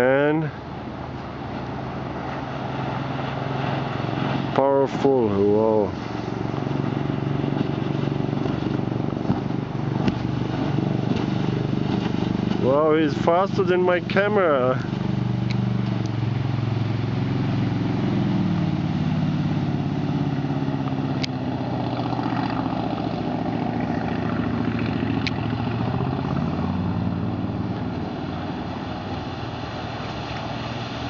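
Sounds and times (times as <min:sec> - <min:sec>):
speedboat engine running hard: 0:00.0 - 0:31.0
hiss of spray and wake: 0:00.3 - 0:31.0.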